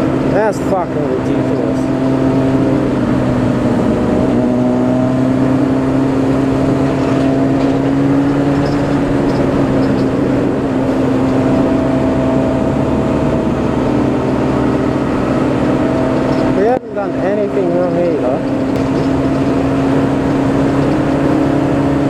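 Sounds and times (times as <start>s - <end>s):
motorcycle engine running: 0.0s - 22.0s
rushing wind noise: 0.0s - 22.0s.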